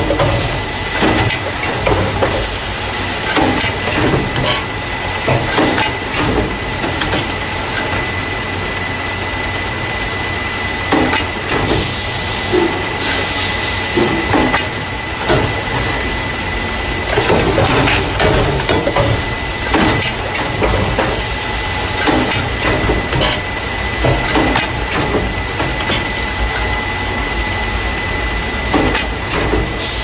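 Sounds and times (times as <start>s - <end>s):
machine low hum: 0.0s - 30.0s.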